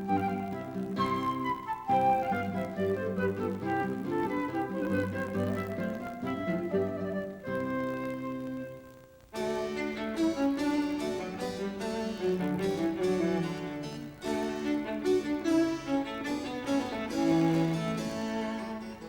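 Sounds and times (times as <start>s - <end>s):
bowed strings music: 0.0s - 19.0s.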